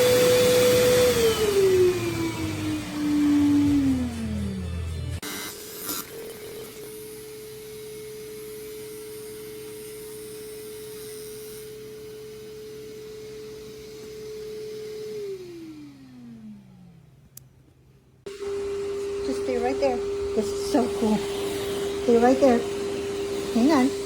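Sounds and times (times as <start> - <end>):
vacuum motor whining: 0.0 - 17.2, 18.3 - 24.0.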